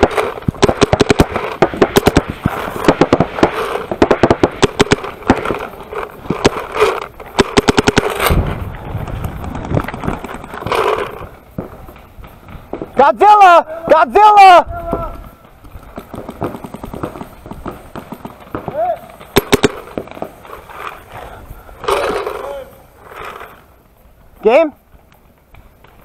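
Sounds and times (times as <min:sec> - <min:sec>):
paintball markers firing: 0:00.0 - 0:13.2, 0:14.8 - 0:23.7.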